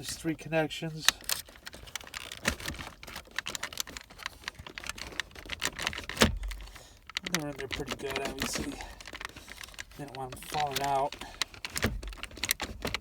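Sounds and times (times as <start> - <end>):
plastic clicking and rattling: 1.0 - 13.0.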